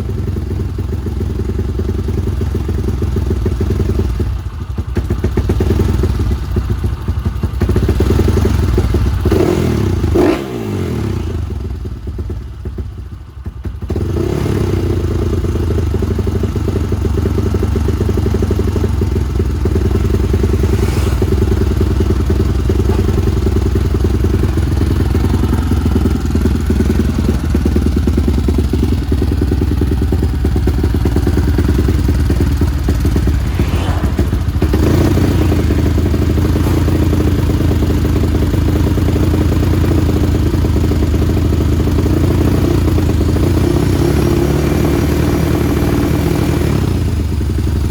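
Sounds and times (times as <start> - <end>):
motorcycle engine revving: 4.8 - 12.3, 13.8 - 47.9.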